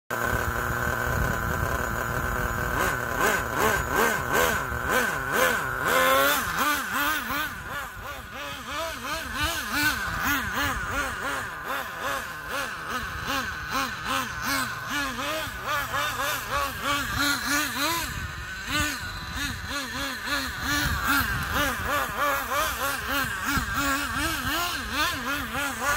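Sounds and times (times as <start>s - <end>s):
model car nitro engine revving: 0.1s - 25.9s.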